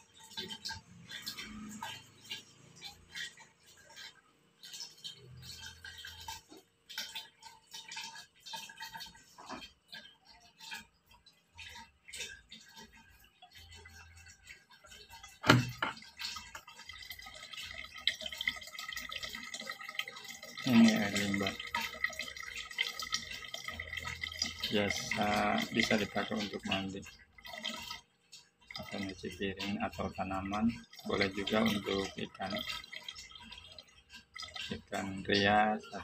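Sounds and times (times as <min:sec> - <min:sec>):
water trickling into plastic jug: 0:00.0 - 0:36.0.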